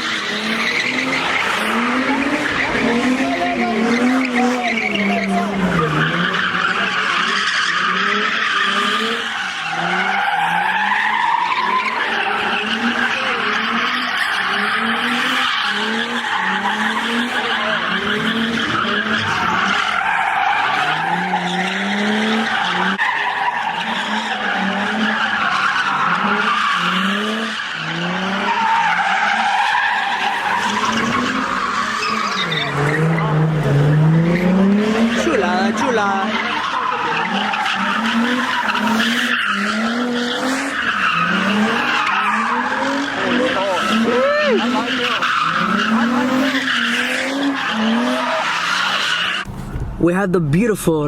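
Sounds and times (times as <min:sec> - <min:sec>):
tyres screeching: 0:00.0 - 0:50.1
car engine revving: 0:00.0 - 0:50.6.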